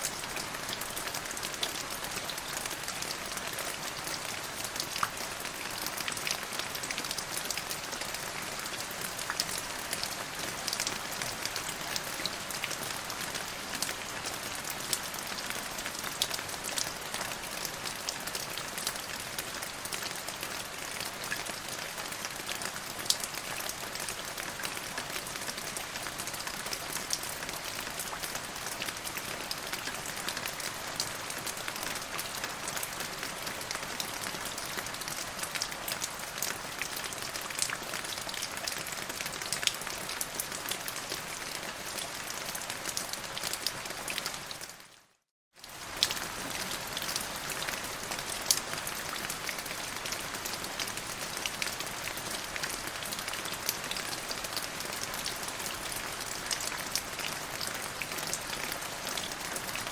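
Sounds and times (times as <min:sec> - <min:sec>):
steady rain with drop splats: 0:00.0 - 0:59.9.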